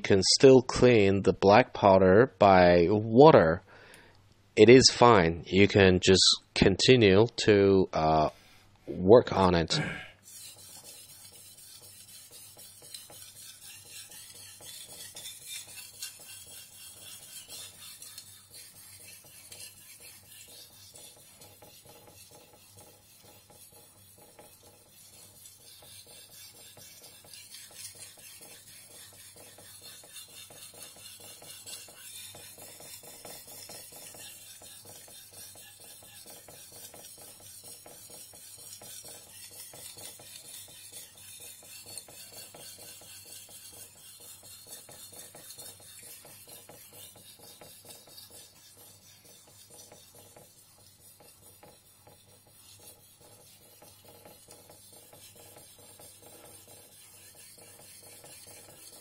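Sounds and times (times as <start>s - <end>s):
knife scraping on whetstone: 10.1s - 59.0s.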